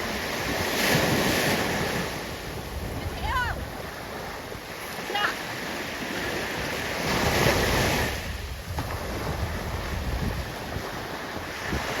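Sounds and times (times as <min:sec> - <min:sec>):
surf washing up beach: 0:00.0 - 0:12.0
wind rumbling on microphone: 0:00.0 - 0:12.0.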